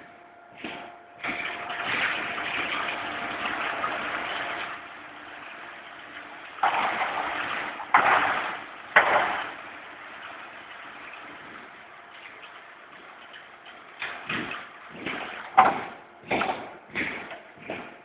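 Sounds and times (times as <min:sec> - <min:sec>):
roll-forming machine motor hum: 0:00.0 - 0:18.0.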